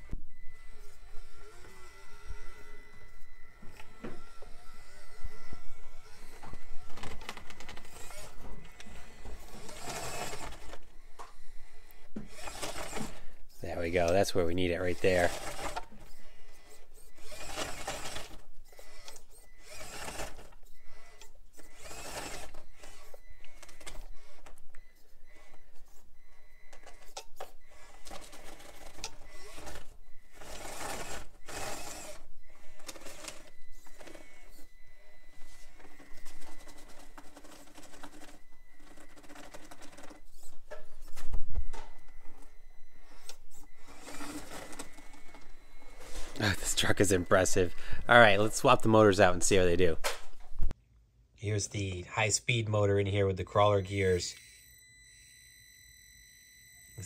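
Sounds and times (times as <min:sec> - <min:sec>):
small motor and gearbox whine: 0:00.0 - 0:50.8, 0:53.8 - 0:57.0.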